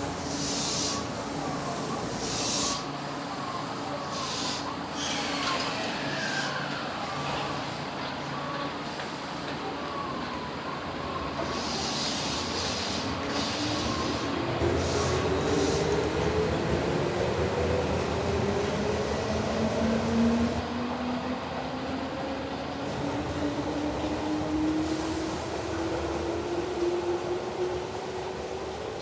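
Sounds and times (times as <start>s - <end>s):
rising tone of train pulling away: 0.0s - 29.0s.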